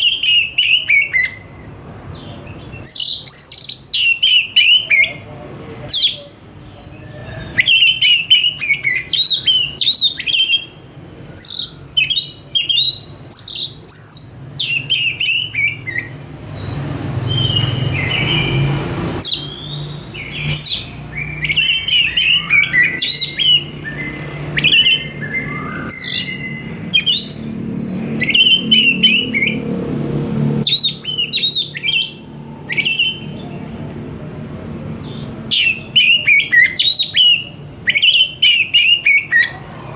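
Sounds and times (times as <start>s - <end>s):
bird singing chirps and whistles: 0.0s - 5.2s, 6.9s - 29.6s, 30.6s - 33.6s, 35.0s - 39.6s.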